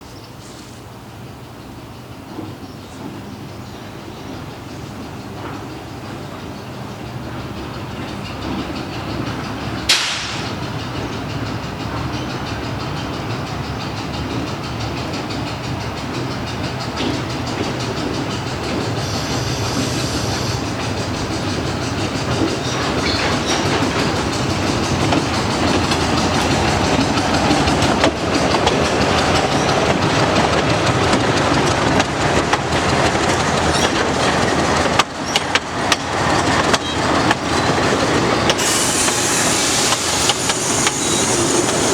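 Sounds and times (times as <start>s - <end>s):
diesel locomotive engine: 0.0s - 41.9s
train wheels clicking on rail joints: 0.3s - 41.9s.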